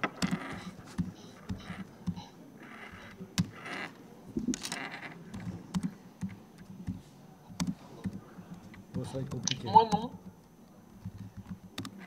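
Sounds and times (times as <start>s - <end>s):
laptop keyboard typing: 0.0s - 12.0s.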